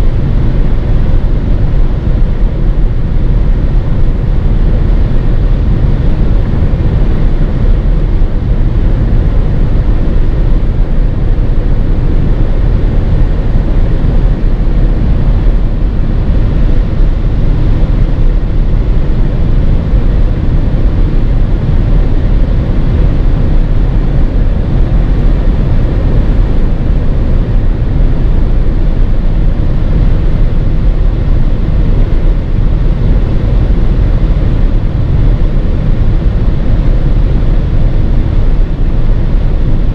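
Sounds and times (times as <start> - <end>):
tyre and wind noise in car: 0.0 - 39.9.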